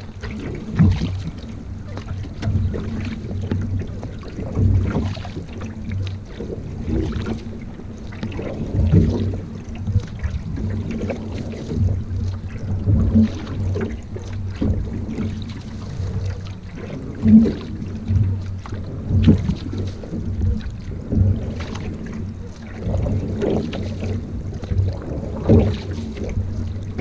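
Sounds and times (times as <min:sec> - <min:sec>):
paddle stroke splashes: 0:00.0 - 0:27.0
water washing: 0:00.0 - 0:27.0.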